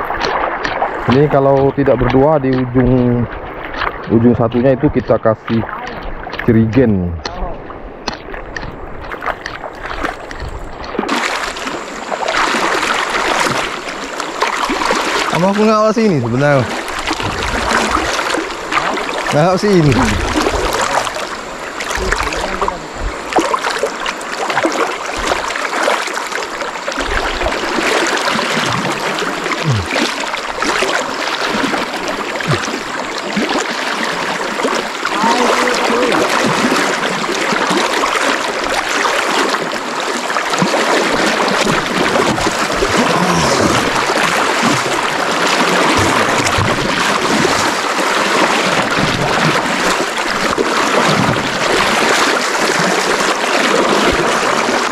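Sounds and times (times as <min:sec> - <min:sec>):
fast river water rushing: 0:00.0 - 0:54.9
people wading through water: 0:00.0 - 0:54.9.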